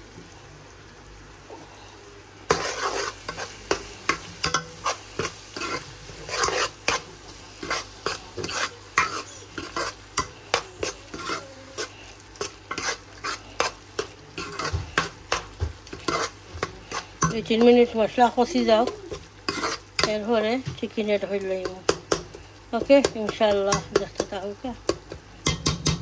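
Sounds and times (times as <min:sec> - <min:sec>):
onions sizzling: 0:00.0 - 0:26.0
spoon scraping a pan: 0:02.4 - 0:26.0.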